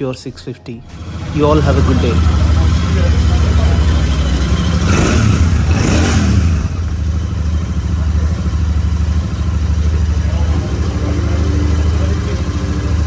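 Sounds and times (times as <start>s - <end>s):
motorcycle engine idling: 0.9s - 13.0s
motorcycle engine revving: 0.9s - 13.0s.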